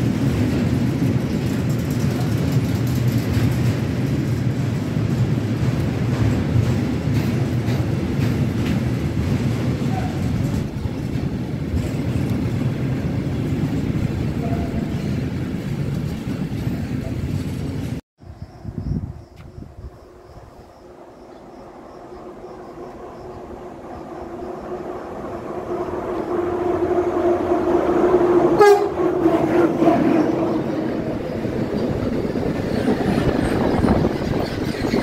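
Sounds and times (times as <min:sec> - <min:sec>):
freight train rolling past: 0:00.0 - 0:18.0, 0:19.6 - 0:35.0.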